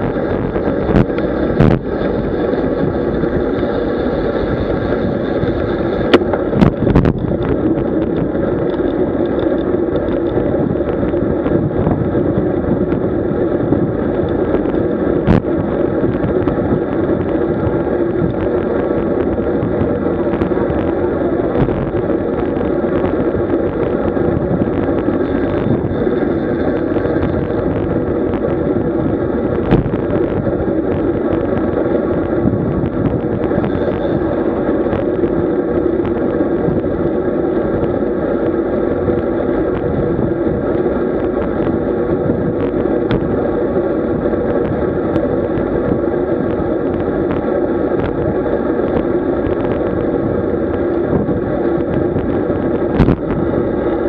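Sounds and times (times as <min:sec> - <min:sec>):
road rumble: 0:00.0 - 0:54.0
wind on microphone: 0:00.0 - 0:54.0.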